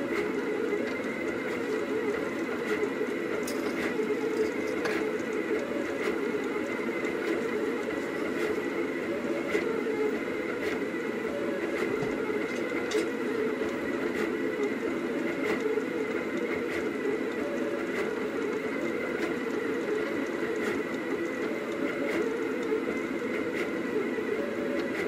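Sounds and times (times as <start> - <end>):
printer motors whirring: 0.0 - 25.0.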